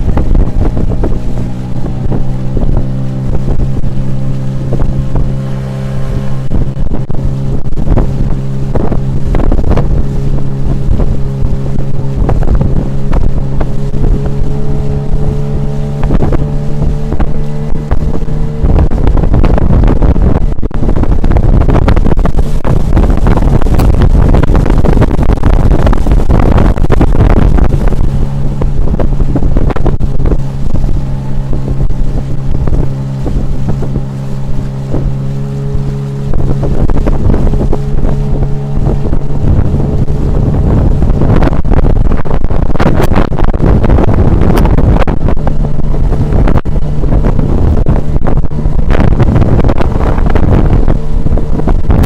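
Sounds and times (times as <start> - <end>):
outboard motor running: 0.0 - 52.0
rushing water: 0.0 - 52.0
wind buffeting microphone: 0.0 - 52.0.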